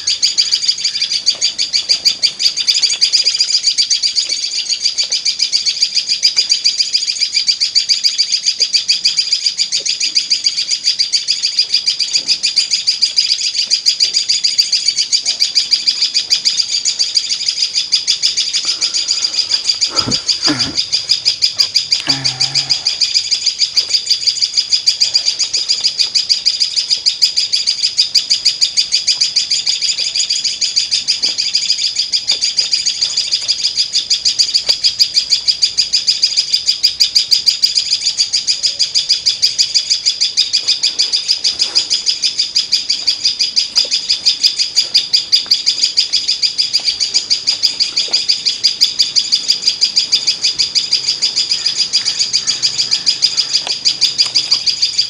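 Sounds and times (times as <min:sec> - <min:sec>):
songbird alarm chirps: 0:00.0 - 0:55.0.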